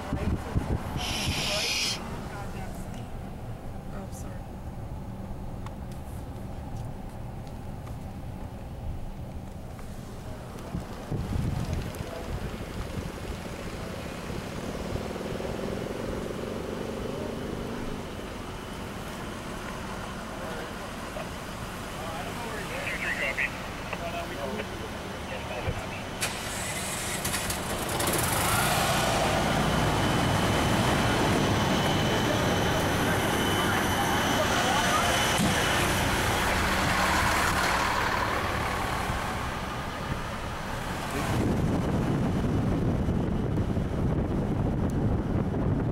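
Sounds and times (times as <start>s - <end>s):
vehicle engines rumbling: 0.0s - 45.9s.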